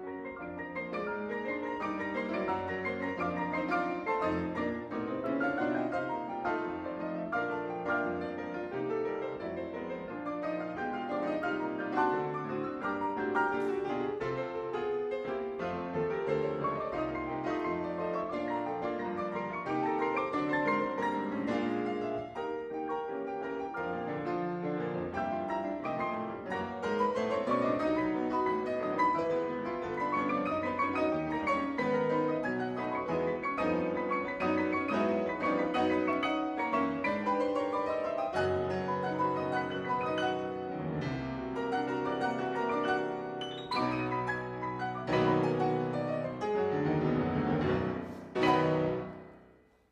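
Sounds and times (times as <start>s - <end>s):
ragtime piano music: 0.0s - 49.9s.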